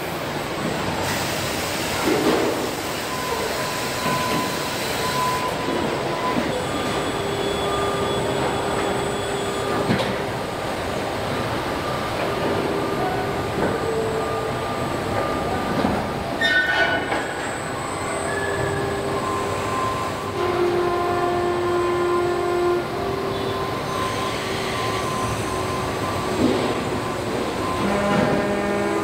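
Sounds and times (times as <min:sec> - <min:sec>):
factory machinery rumble: 0:00.0 - 0:29.0
machinery whining and squealing: 0:01.0 - 0:29.0.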